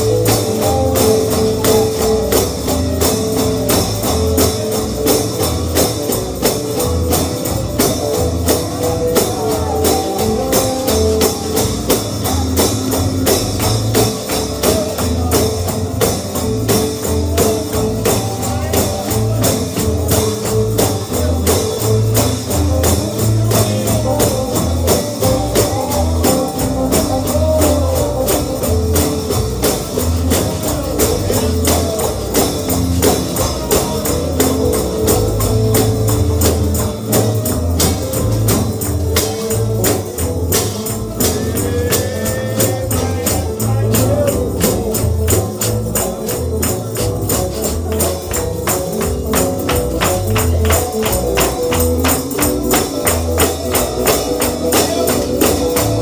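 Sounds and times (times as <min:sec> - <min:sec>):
bluegrass gospel music: 0:00.0 - 0:56.0
tambourine jingling: 0:00.0 - 0:56.0.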